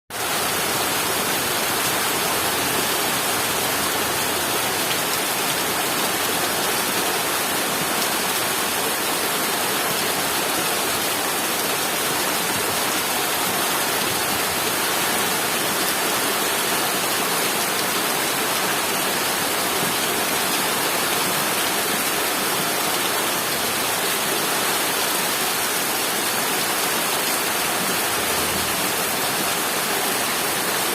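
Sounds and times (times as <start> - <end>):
steady rain falling: 0.1 - 30.9.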